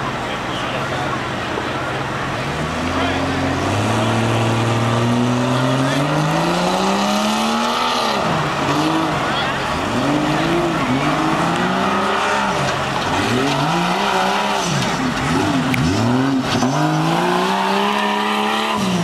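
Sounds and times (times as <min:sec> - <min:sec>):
engine revving hard: 0:02.4 - 0:19.0.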